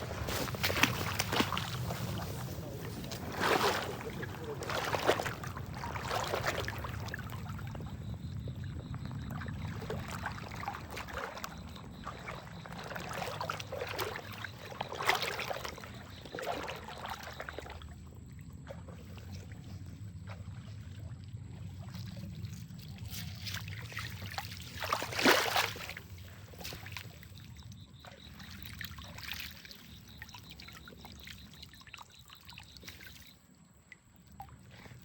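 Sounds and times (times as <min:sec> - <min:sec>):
river water splashing: 0:00.0 - 0:08.1, 0:08.8 - 0:33.4.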